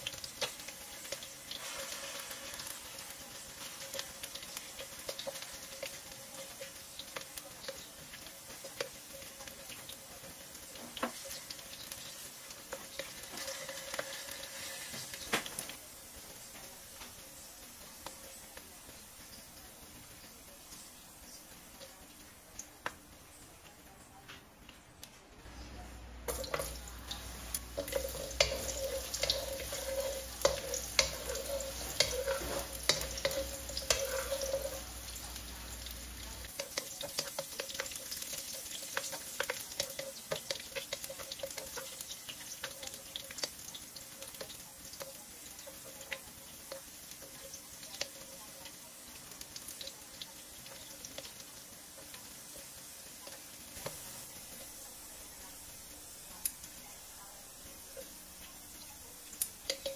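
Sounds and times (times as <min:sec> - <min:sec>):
carrots sizzling in oil: 0:00.0 - 0:24.2, 0:25.5 - 0:59.9.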